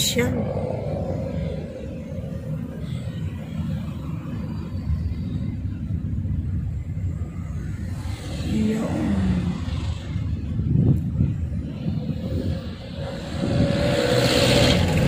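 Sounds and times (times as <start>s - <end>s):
car interior rumble: 0.0s - 15.0s
rushing noise: 0.0s - 15.0s.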